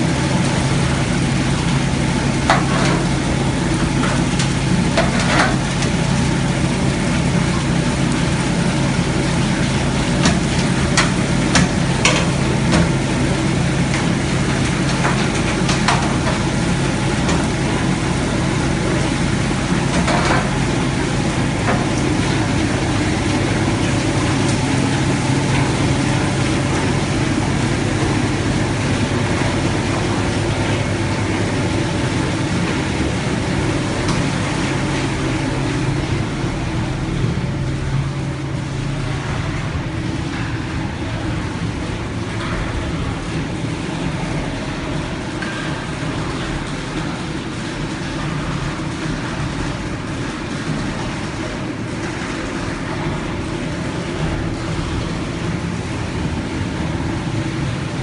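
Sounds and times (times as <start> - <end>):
destemmer machine humming: 0.0 - 58.0.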